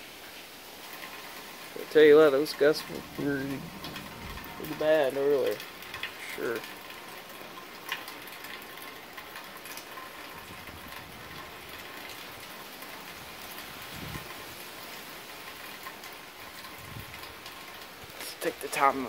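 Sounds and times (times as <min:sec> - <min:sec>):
rain falling steadily: 0:00.0 - 0:19.0.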